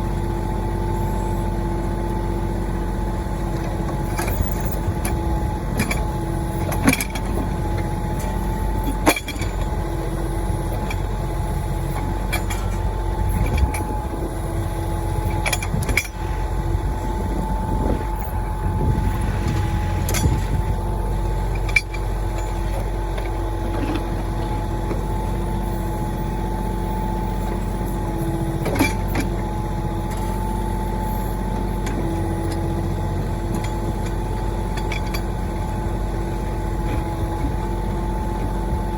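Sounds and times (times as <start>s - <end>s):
steady hydraulic whine: 0.0s - 38.9s
tractor diesel engine running: 0.0s - 38.9s.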